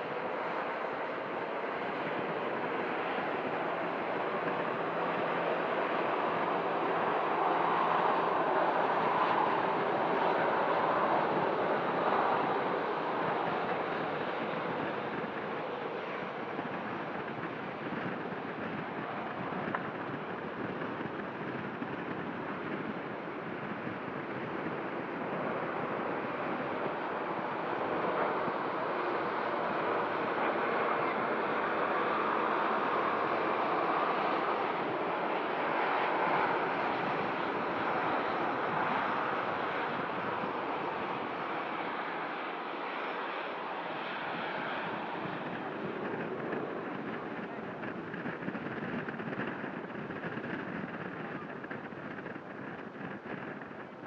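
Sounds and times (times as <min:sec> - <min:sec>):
jet airliner engine rushing: 0:00.0 - 0:54.0.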